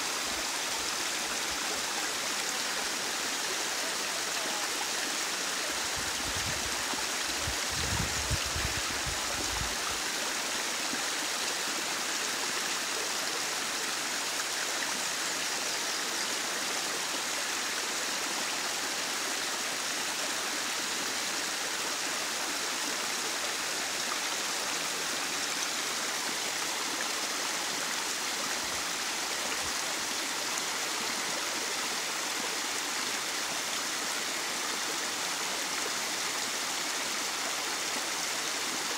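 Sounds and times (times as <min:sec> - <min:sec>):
small waterfall hissing: 0:00.0 - 0:38.9.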